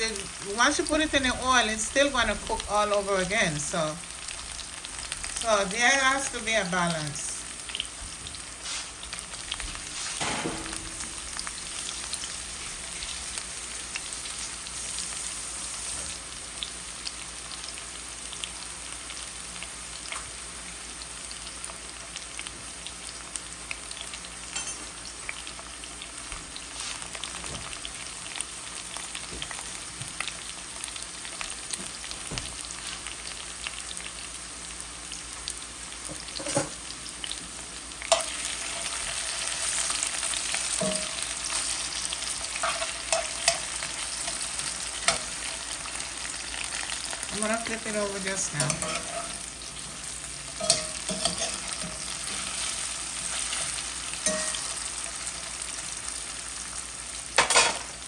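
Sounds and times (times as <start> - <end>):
food frying in hot oil: 0.0 - 58.0.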